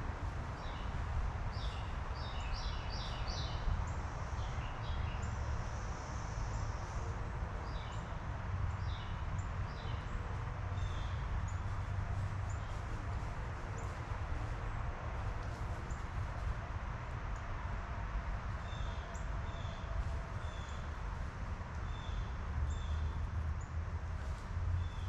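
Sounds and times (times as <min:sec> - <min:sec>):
songbirds chirping: 0:00.3 - 0:25.0.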